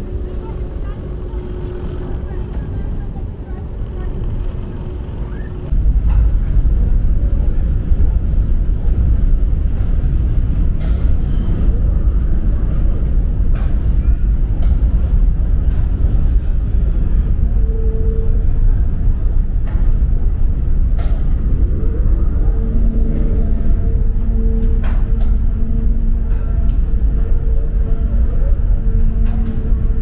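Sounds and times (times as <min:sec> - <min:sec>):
ferry machinery rumbling: 0:00.0 - 0:30.0.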